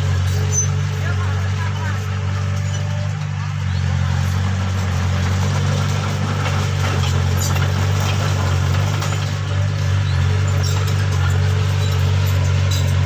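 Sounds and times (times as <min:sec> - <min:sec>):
low engine-like hum: 0:00.0 - 0:13.0
noisy mechanical wash: 0:00.0 - 0:13.0.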